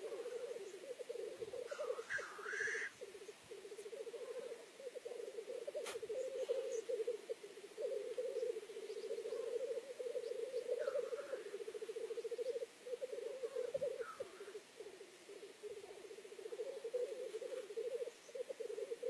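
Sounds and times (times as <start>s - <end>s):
black grouse bubbling lek song: 0.0s - 19.0s.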